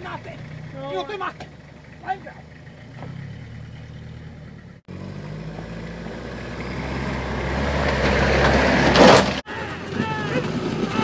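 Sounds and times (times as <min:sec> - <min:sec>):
pickup truck engine at low revs: 0:00.0 - 0:11.0
truck passing by: 0:00.0 - 0:11.0.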